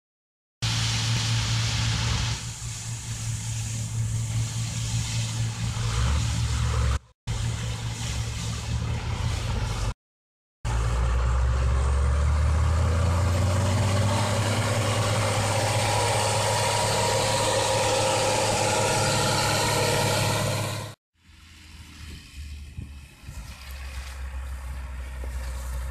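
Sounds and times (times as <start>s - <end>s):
tractor diesel engine at full power: 0.6s - 10.0s, 10.6s - 25.9s.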